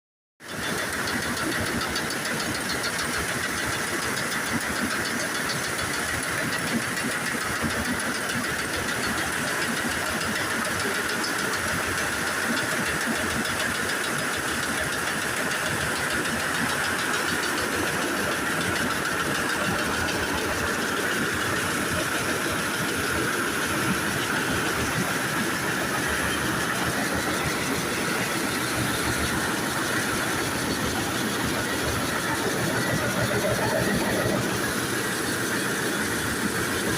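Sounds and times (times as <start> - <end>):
machinery drone with hiss: 6.8 - 36.9.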